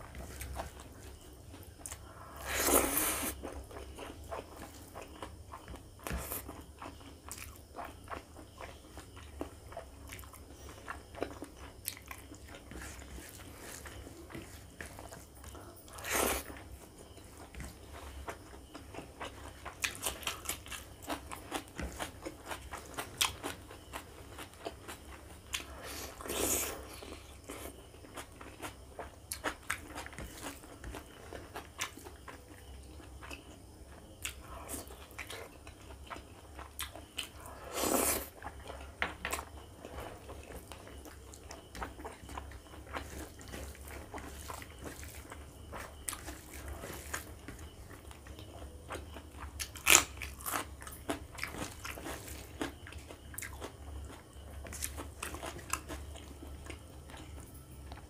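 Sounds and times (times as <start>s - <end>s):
man chewing and mouth sounds: 0.0s - 58.0s.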